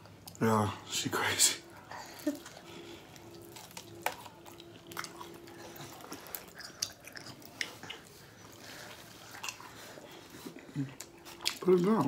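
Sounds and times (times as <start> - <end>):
biting and chewing food: 2.1 - 12.0.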